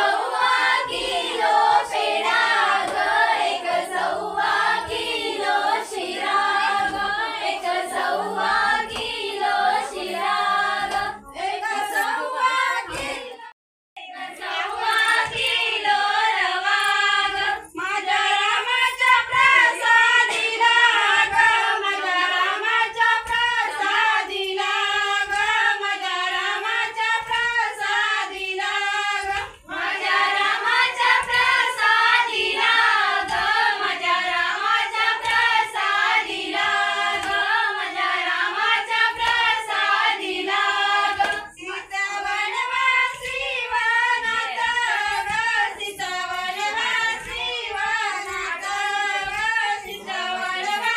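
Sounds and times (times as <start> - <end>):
women singing in unison: 0.0 - 50.9.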